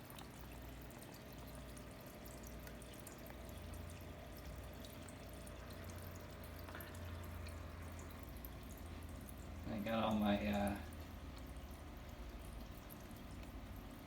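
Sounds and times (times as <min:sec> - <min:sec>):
pump hum: 0:00.0 - 0:14.0
water trickling and dripping: 0:00.0 - 0:14.0.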